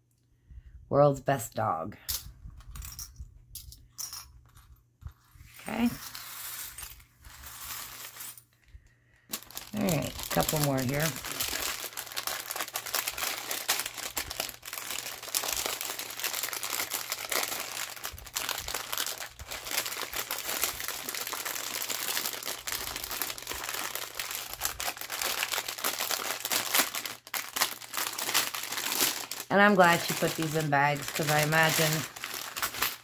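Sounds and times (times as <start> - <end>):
plastic bags crinkling: 5.6 - 33.0.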